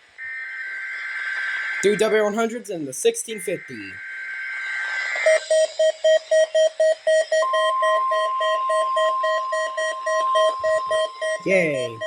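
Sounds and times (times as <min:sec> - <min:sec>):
steady warning alarm tone: 0:00.0 - 0:12.0
rapid alarm beeping: 0:00.2 - 0:12.0.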